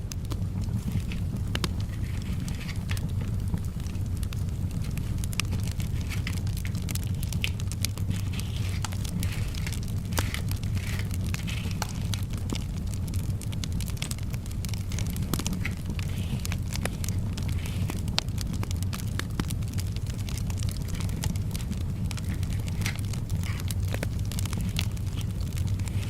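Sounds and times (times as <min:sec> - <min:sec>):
fireplace fire crackling: 0:00.0 - 0:26.0.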